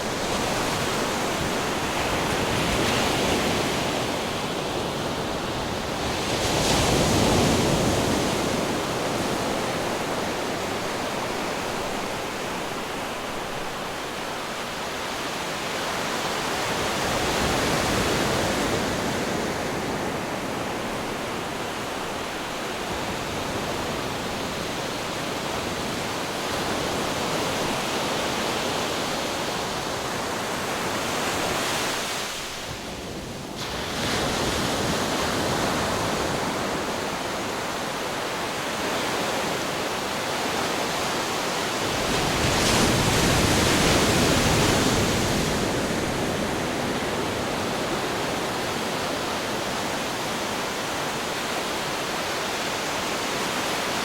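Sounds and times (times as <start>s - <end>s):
ocean waves breaking on rocks: 0.0s - 54.0s.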